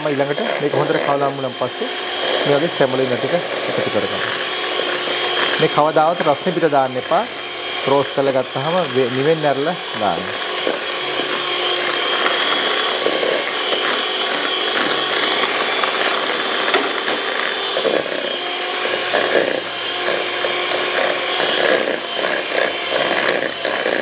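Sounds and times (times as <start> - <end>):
electric hand mixer whining: 0.0 - 24.0.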